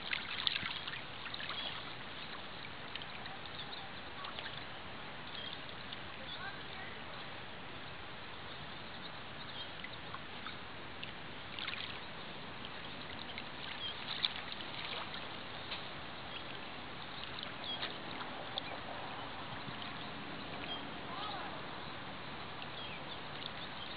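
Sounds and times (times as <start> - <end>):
small waves lapping on shore: 0.0 - 23.9.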